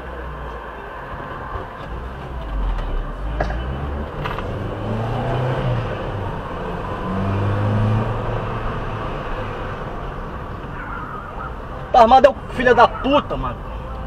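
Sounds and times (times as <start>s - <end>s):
car engine and road rumble: 0.0s - 14.0s
steady engine hum: 0.0s - 14.0s.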